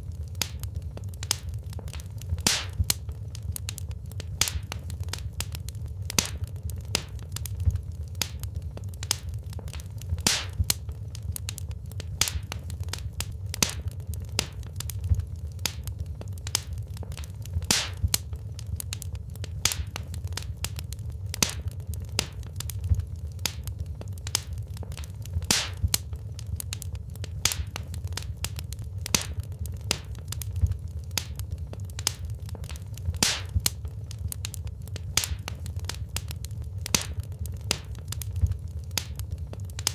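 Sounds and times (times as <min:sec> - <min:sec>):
burning logs popping and snapping: 0:00.0 - 0:39.9
low rumble of flames: 0:00.0 - 0:39.9.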